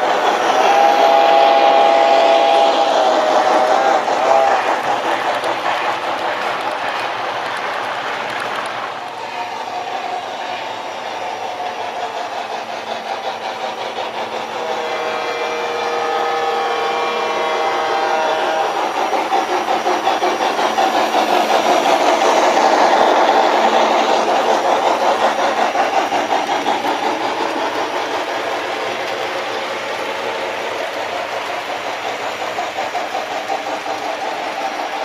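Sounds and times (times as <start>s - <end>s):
model steam locomotive chuffing: 0.0s - 35.0s.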